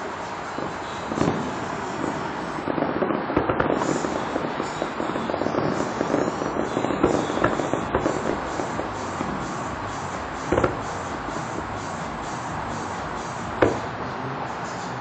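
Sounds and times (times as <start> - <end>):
distant fireworks bangs and crackles: 0.0 - 15.0
steady background noise: 0.0 - 15.0.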